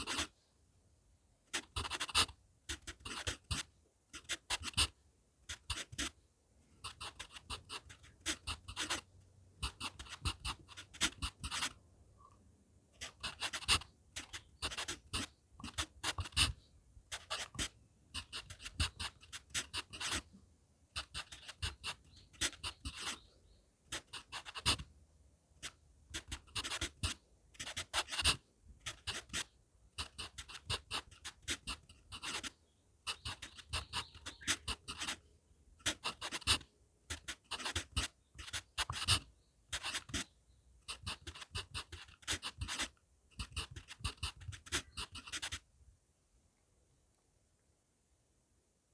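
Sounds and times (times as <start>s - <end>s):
pencil scratching on paper: 0.0s - 0.3s, 1.5s - 6.2s, 6.8s - 11.8s, 13.0s - 20.3s, 21.0s - 23.3s, 23.9s - 24.9s, 25.6s - 45.6s.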